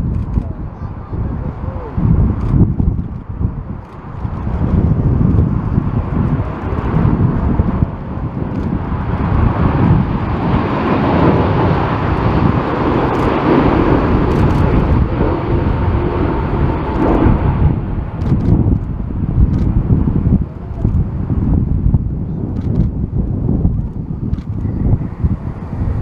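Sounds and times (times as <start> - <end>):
jet airliner engines roaring: 0.0 - 26.0
wind buffeting microphone: 0.0 - 26.0.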